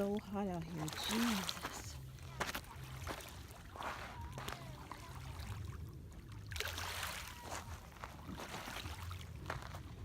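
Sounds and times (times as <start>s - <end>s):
water trickling off paddle: 0.0s - 9.6s
kayak paddle splashing: 0.0s - 10.0s.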